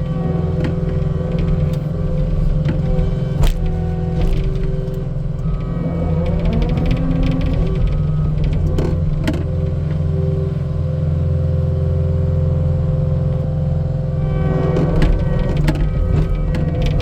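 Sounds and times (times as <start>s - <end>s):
constant whine: 0.0s - 17.0s
skid steer engine running: 0.0s - 17.0s.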